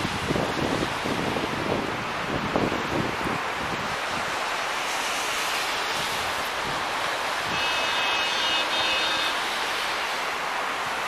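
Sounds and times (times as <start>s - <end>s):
car tyres on slushy road: 0.0s - 11.0s.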